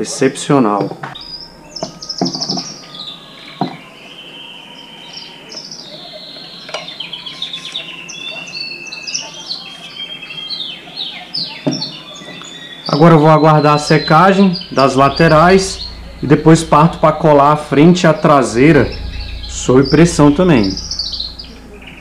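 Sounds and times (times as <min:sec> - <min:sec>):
small birds chirping: 0:01.1 - 0:22.0.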